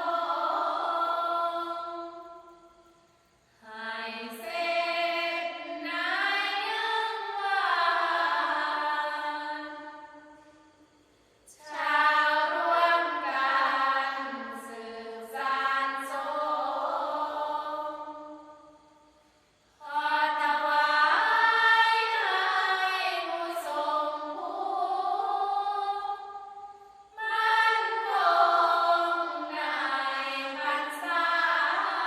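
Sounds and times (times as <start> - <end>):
group chanting in unison: 0.0 - 2.4, 3.6 - 10.3, 11.5 - 18.6, 19.8 - 32.0.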